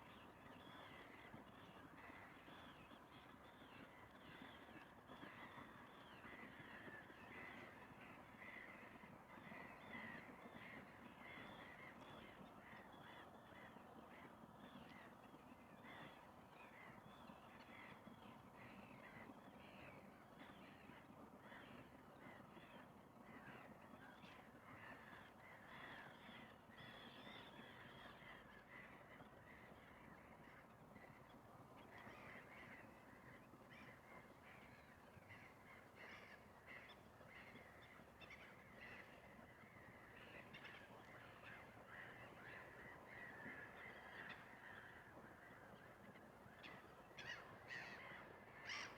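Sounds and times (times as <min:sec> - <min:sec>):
distant bird calls: 0:00.0 - 0:48.9
low steady background hush: 0:00.0 - 0:48.9.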